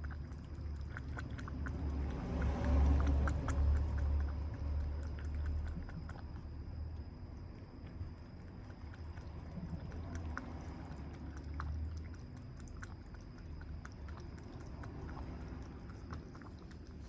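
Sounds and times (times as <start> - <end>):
kitten chewing: 0.0 - 17.0
low steady rumble: 0.0 - 17.0.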